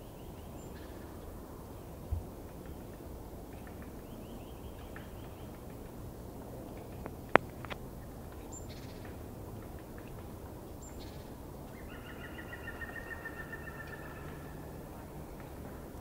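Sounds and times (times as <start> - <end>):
low outdoor background: 0.0 - 16.0.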